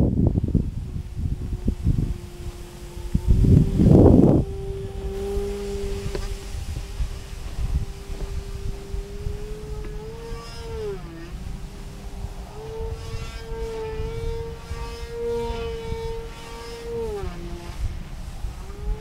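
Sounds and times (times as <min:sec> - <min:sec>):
propeller motor whining: 0:00.0 - 0:19.0
wind buffeting microphone: 0:00.0 - 0:19.0.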